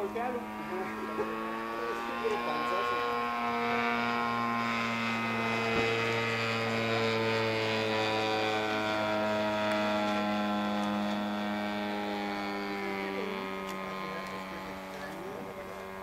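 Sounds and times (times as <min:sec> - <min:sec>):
model airplane engine droning: 0:00.0 - 0:16.0.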